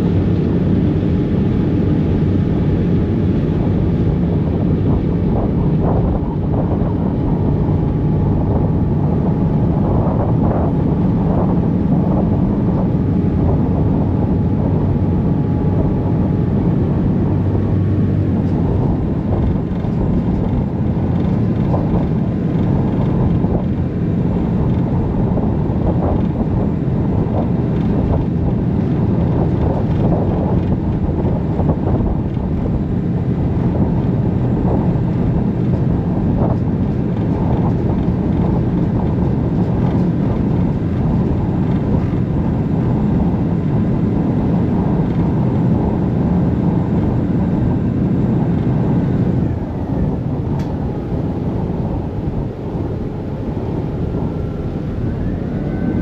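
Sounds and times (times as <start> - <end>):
ferry engine drone: 0.0 - 56.0.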